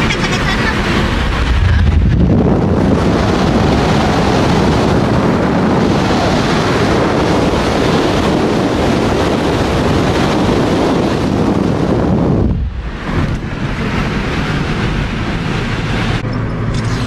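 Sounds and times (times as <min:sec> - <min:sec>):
wind buffeting microphone: 0:00.0 - 0:16.3
tyre and road noise: 0:00.0 - 0:17.0.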